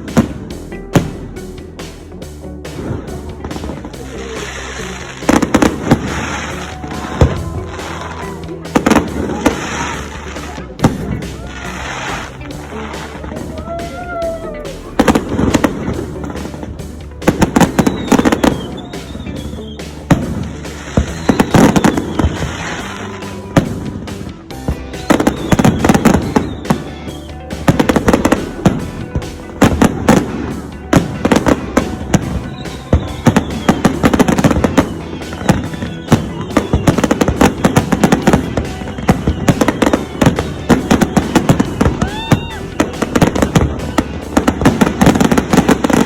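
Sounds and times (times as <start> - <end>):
fireworks bangs and crackles: 0.0 - 46.0
music: 0.0 - 46.0
fireworks falling whistles: 3.6 - 46.0.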